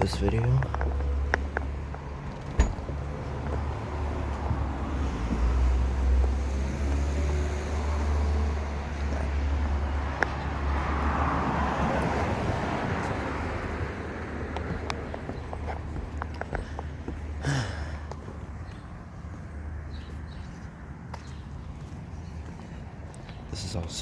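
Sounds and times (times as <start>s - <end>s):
cars passing: 0.0s - 24.0s
steady low traffic rumble: 0.0s - 24.0s.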